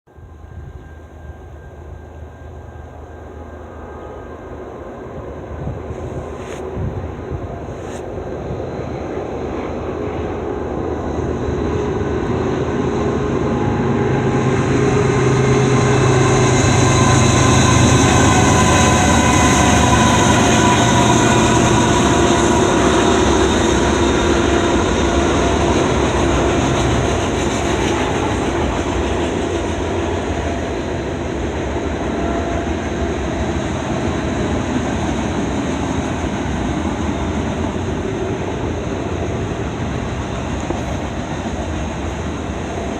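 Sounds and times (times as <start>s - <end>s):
diesel locomotive engines passing: 0.1s - 42.9s
train cars rumbling past: 0.1s - 42.9s.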